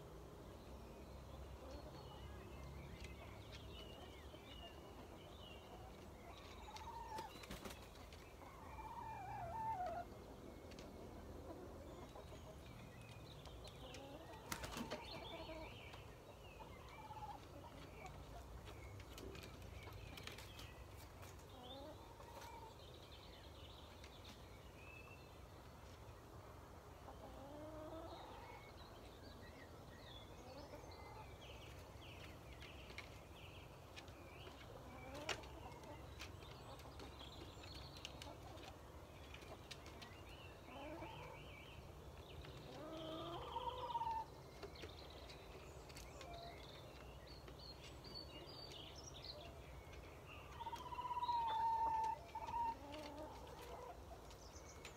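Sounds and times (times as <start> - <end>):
chickens soft gliding calls: 1.4 - 54.9.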